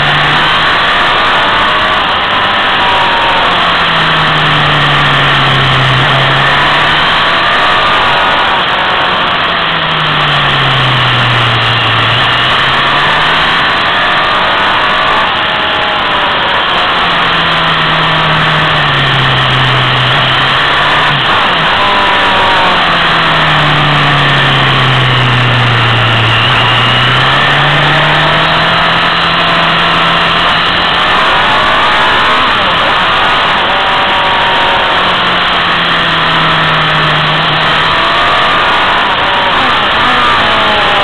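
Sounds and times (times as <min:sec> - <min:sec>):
motorcycle engine accelerating: 0:00.0 - 0:41.0
wind and road noise: 0:00.0 - 0:41.0.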